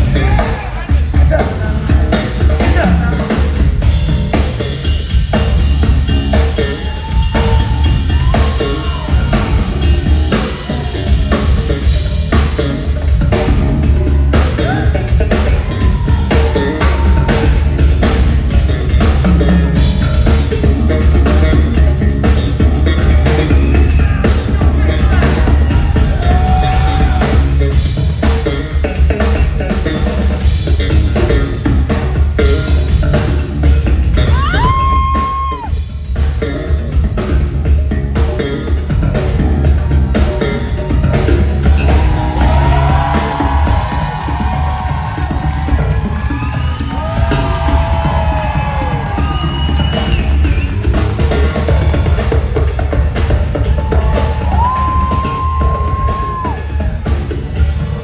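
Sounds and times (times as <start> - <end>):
drum kit beat: 0.0 - 58.0
electric bass line: 0.0 - 58.0
live rock band playing: 0.0 - 58.0.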